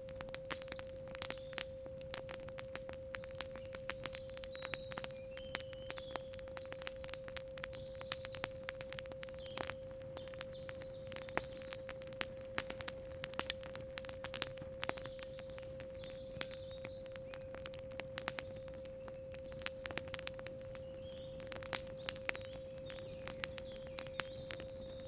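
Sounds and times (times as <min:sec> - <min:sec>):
campfire crackling and popping: 0:00.0 - 0:25.0
small birds chirping: 0:00.1 - 0:01.8, 0:02.8 - 0:25.0.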